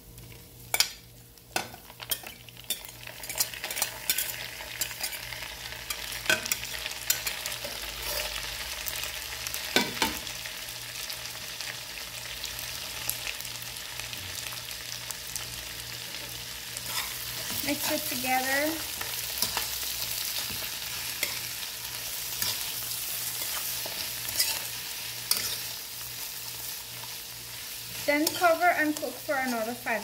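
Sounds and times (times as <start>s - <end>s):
vegetables sizzling in hot oil: 0.0s - 30.0s.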